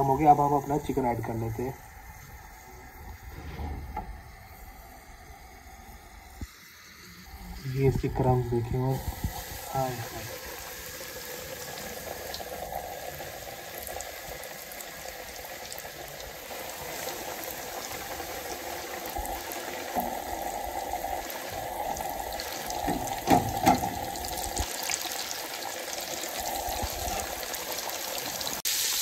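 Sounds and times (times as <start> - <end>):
chicken sizzling in hot oil: 0.0 - 3.4, 4.2 - 29.0.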